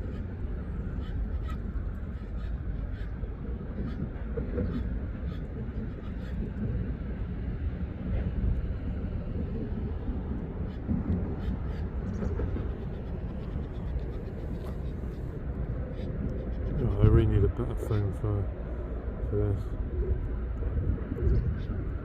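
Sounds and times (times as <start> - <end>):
airliner engine rumble: 0.0 - 22.0.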